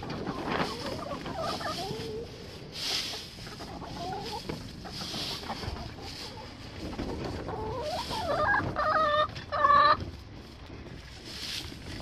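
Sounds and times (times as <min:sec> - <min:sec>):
hens clucking and squawking: 0:00.0 - 0:12.0.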